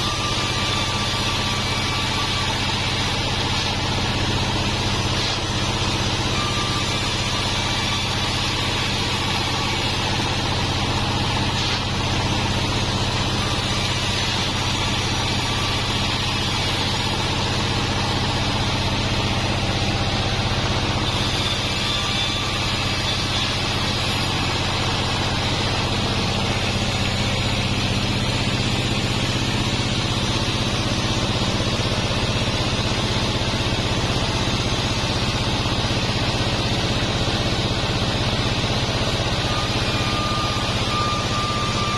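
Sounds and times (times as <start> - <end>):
band saw running: 0.0 - 41.9.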